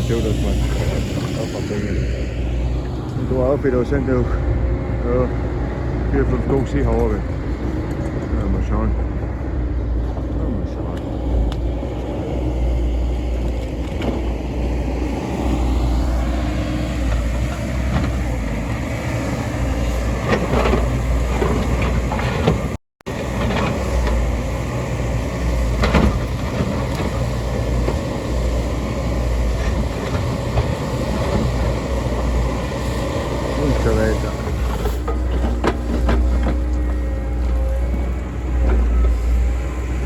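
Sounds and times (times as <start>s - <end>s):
diesel engine rumbling: 0.0s - 40.0s.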